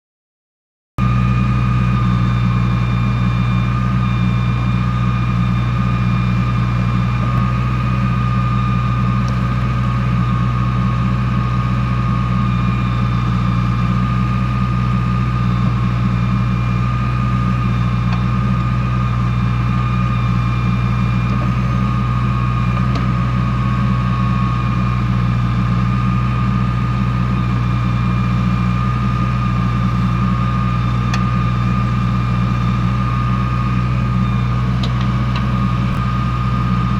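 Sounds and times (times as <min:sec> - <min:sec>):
diesel engine idling: 0:01.0 - 0:36.9.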